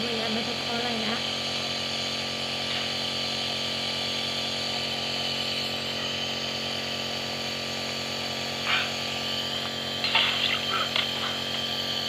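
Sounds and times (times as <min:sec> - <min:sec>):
nebulizer motor hum: 0:00.0 - 0:12.0.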